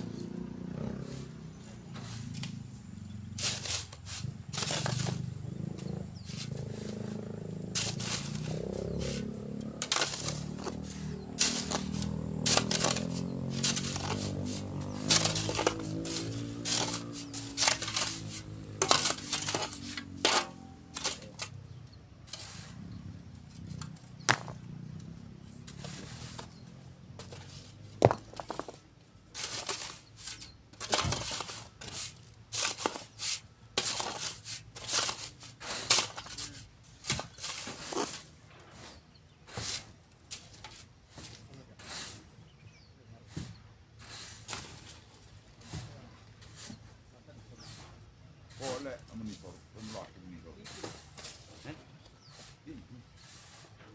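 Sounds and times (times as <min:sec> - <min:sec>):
metal shovel scraping sand: 0:00.9 - 0:24.5, 0:25.4 - 0:53.9.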